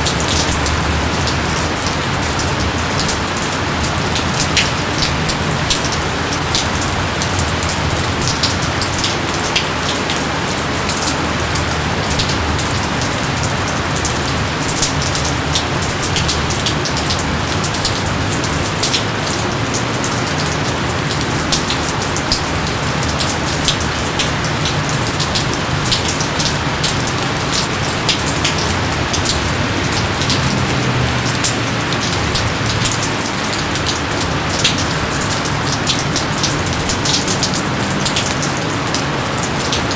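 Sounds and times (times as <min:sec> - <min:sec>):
heavy rain hiss: 0:00.0 - 0:39.9
raindrops pattering close by: 0:00.0 - 0:39.9.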